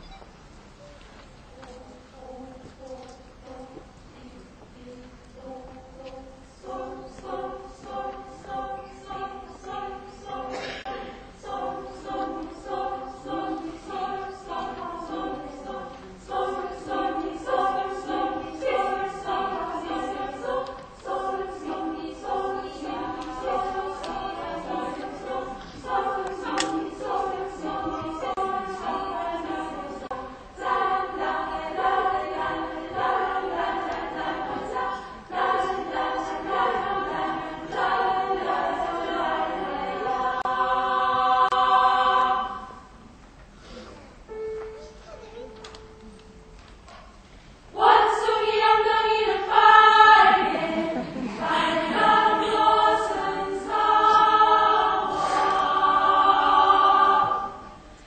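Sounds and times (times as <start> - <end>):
women's choir singing a cappella: 1.5 - 43.2, 47.6 - 58.0.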